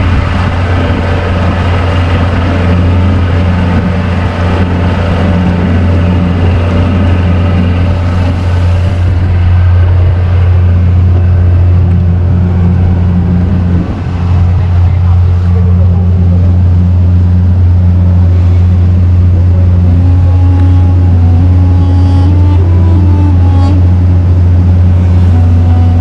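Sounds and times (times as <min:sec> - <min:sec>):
boat motor droning: 0:00.0 - 0:26.0
water churning: 0:00.0 - 0:26.0.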